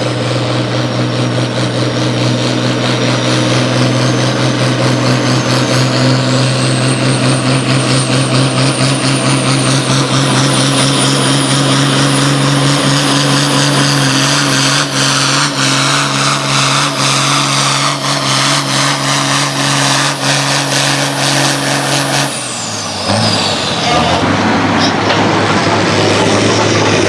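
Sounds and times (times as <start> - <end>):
pulling vehicle engine running flat out: 0.0 - 27.0.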